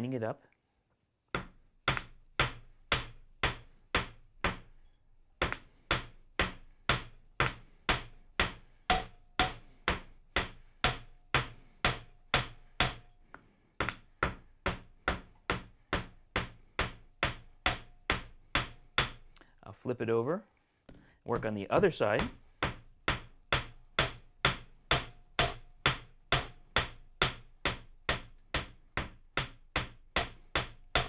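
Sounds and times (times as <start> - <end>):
forging hammer striking metal on anvil: 1.4 - 19.4, 20.9 - 31.0.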